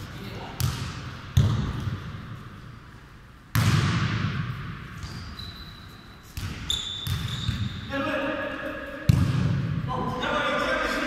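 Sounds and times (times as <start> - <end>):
ball thudding in echoing hall: 0.0 - 11.0.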